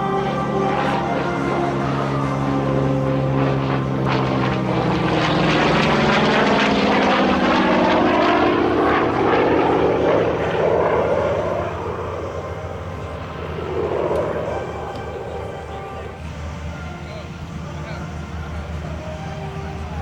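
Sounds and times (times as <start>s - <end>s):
propeller plane engine passing: 0.0s - 20.0s.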